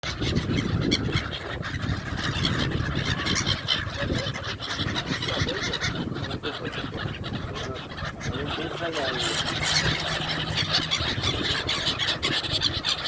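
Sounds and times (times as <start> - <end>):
seabirds calling: 0.0 - 13.0.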